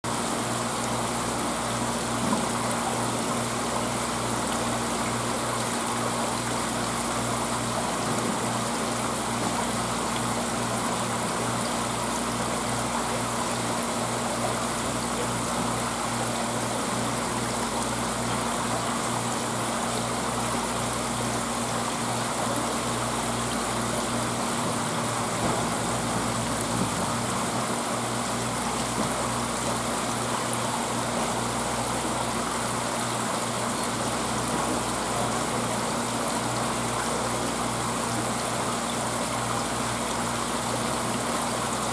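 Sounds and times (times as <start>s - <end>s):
pump electrical hum: 0.0s - 41.9s
running water in aquarium: 0.1s - 41.9s.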